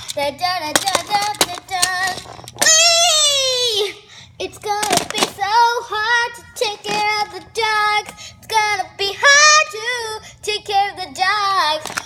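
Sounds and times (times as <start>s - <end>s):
child singing: 0.1s - 12.0s.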